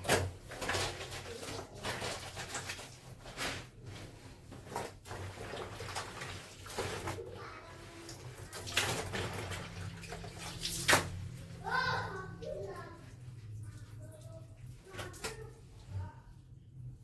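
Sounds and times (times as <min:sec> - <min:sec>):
wet scrubbing of clothes: 0:00.0 - 0:16.0.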